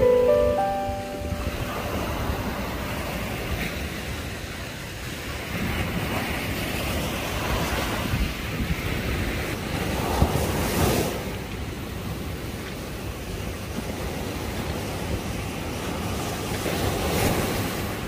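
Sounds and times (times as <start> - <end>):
surf washing up a sandy beach: 0.0 - 18.0
wind buffeting microphone: 1.6 - 18.0.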